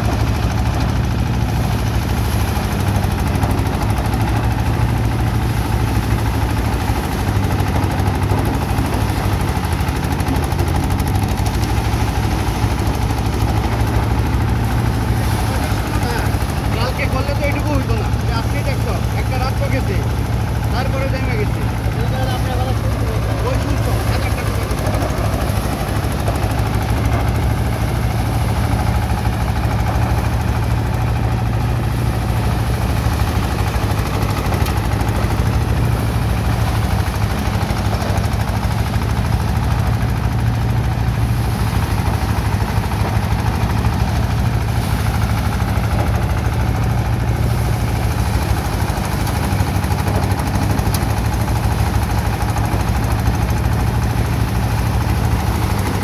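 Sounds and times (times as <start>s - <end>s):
thresher machine hum: 0.0s - 56.0s.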